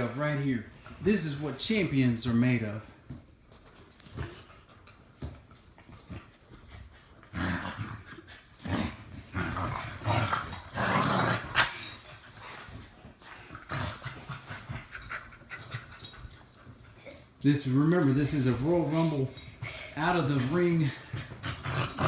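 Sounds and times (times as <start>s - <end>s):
dogs play-wrestling: 0.0s - 22.0s.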